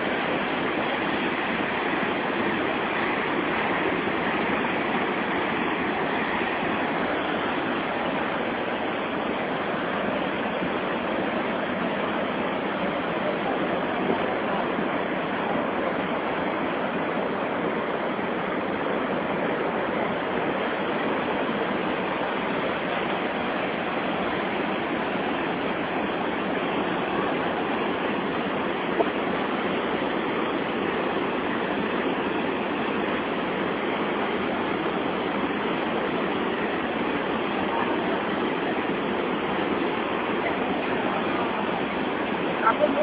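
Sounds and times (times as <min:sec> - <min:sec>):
whitewater rapids roaring: 0:00.0 - 0:43.0.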